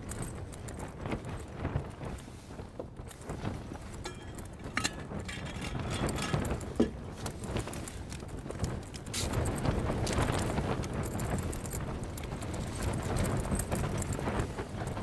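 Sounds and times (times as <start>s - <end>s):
rustling in a tent: 0.0s - 15.0s.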